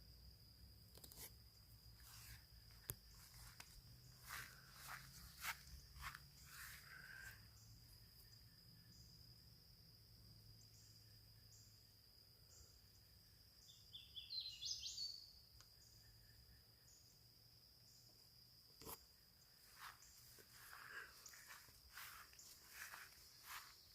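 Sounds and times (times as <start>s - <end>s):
insects trilling: 0.0s - 23.9s
pulsing insect chirp: 0.0s - 23.9s.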